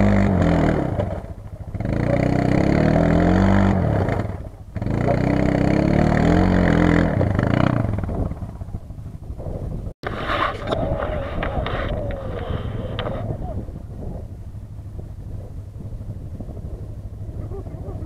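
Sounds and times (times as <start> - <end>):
quad bike engine revving: 0.0 - 9.5, 10.2 - 18.0.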